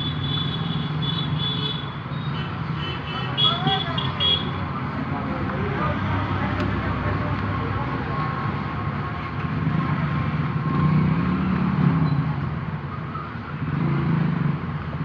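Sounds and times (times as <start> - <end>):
vehicle engines passing: 0.0 - 15.0.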